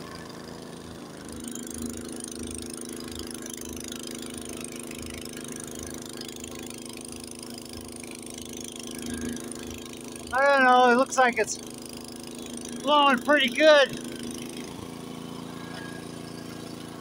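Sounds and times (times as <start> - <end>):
snowblower engine running: 0.0 - 17.0.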